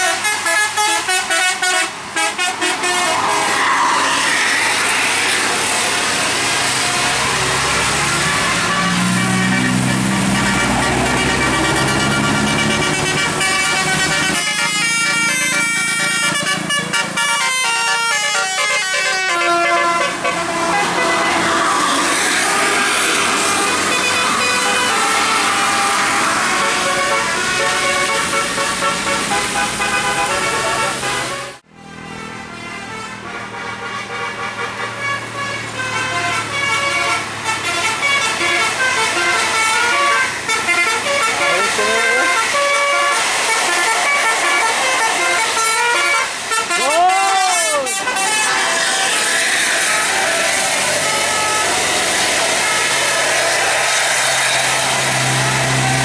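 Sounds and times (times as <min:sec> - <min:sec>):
bus engine running: 0:00.0 - 0:56.0
multi-tone bus horn tune: 0:00.0 - 0:56.0.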